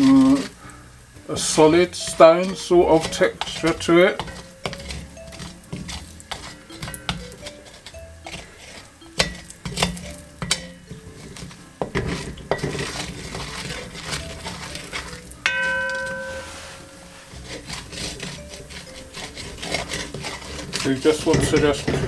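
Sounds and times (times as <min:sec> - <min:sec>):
faint sizzle: 0:00.0 - 0:22.0
utensil scraping in a pan: 0:00.0 - 0:22.0
pan ringing: 0:01.4 - 0:20.3.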